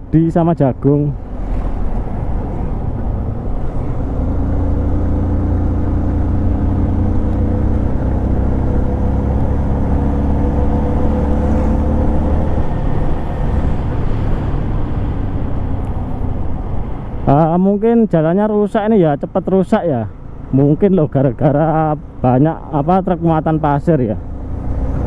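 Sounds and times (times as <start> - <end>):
deep steady engine drone: 0.0 - 25.0
road and wind noise: 0.0 - 25.0.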